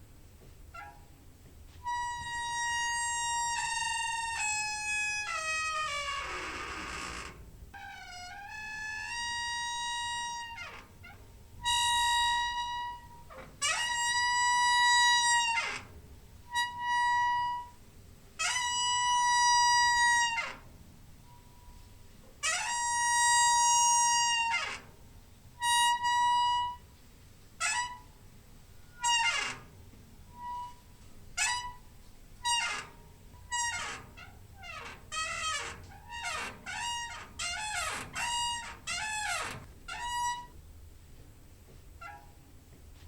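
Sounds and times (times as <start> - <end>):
creaking door hinge squeaking: 0.4 - 1.2, 1.8 - 17.8, 18.4 - 25.0, 25.6 - 27.0, 27.6 - 40.6, 42.0 - 42.4.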